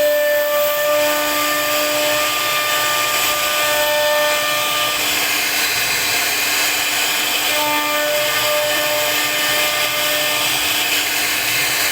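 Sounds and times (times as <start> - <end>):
router spindle cutting wood: 0.0 - 11.9.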